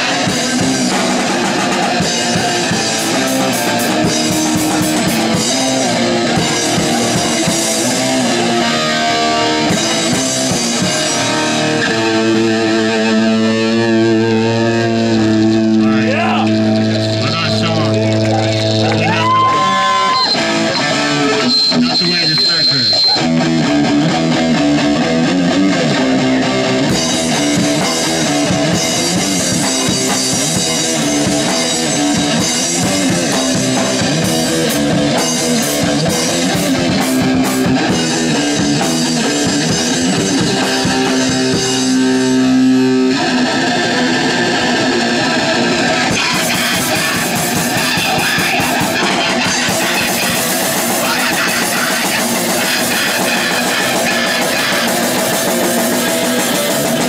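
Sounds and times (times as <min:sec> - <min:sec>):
distorted electric guitar: 0:00.0 - 0:57.0
drum kit: 0:00.0 - 0:57.0.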